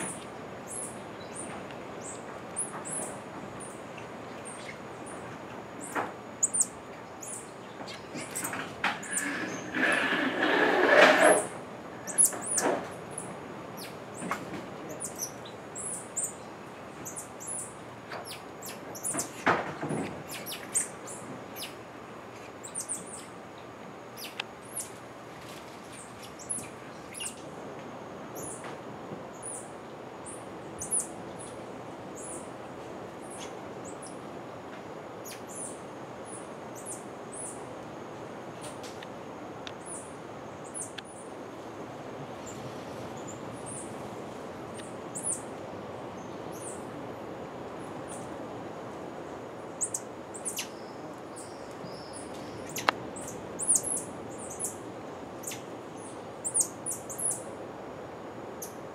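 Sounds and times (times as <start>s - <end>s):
branches and leaves rustling: 0.0s - 58.9s
forest hiss: 0.0s - 58.9s.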